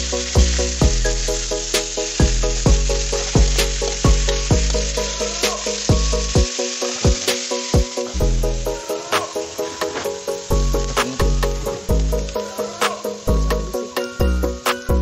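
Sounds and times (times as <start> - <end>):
background music with beat: 0.0 - 15.0
meat frying in oil: 0.0 - 15.0.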